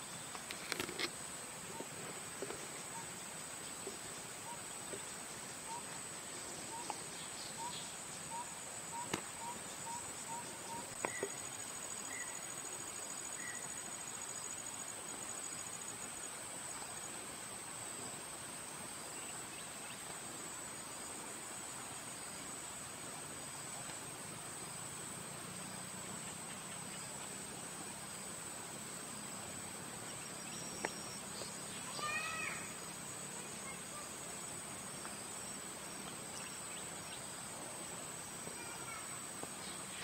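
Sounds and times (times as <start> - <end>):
insects buzzing: 0.0 - 40.0.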